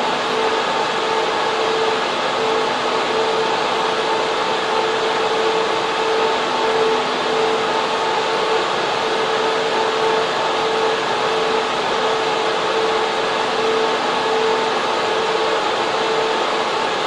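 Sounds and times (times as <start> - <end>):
air-conditioning airflow: 0.0 - 17.0
server cooling fans rushing: 0.0 - 17.0
steady hum: 0.0 - 17.0.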